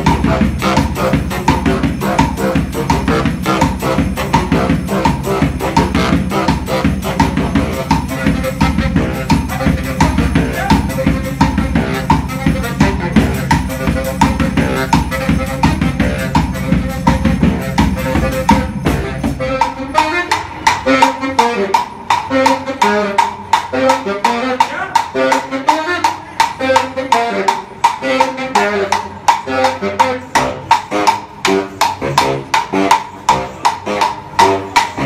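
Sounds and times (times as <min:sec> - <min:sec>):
baritone saxophone: 0:00.0 - 0:35.0
drum beat: 0:00.0 - 0:35.0.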